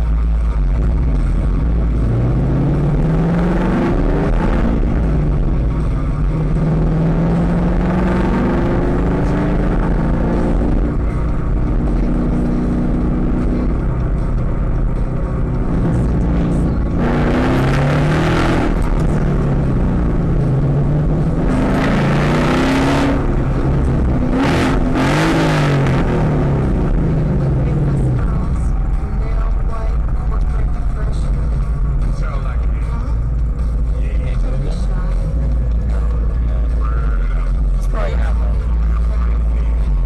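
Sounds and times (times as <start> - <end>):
car engine revving: 0.0 - 40.0
engine and exhaust bursts: 0.0 - 40.0.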